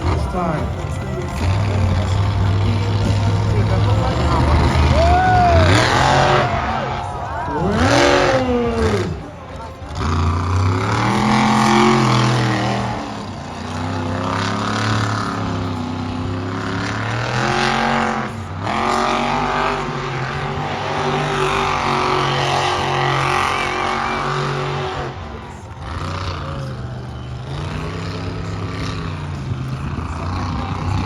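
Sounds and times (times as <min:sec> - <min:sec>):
truck engine revving hard: 0:00.0 - 0:31.0.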